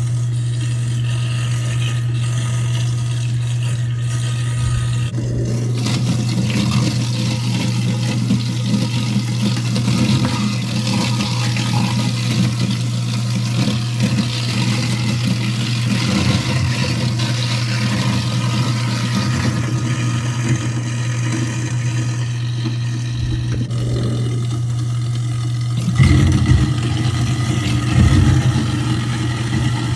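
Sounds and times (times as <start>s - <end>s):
garbage disposal motor hum: 0.0s - 29.9s
water rushing down sink drain: 4.4s - 29.9s.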